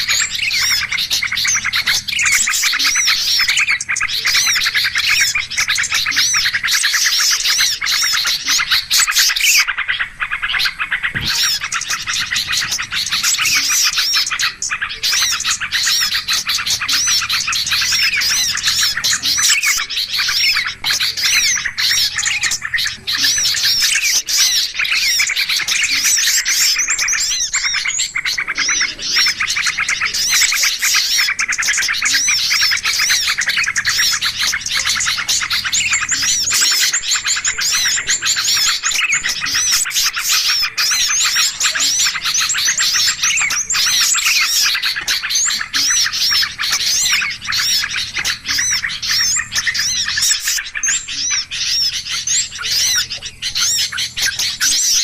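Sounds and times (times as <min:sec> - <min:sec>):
flock of songbirds chirping: 0:00.0 - 0:55.0.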